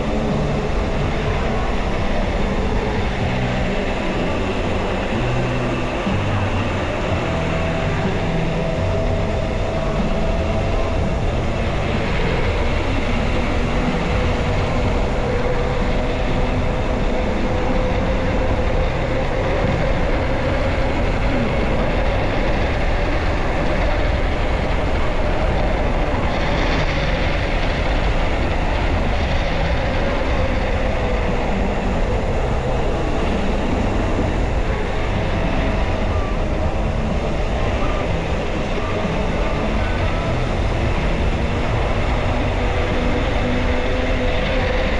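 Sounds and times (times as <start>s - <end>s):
faint tone drifting in pitch: 0.0s - 44.9s
wind and road noise: 0.0s - 44.9s.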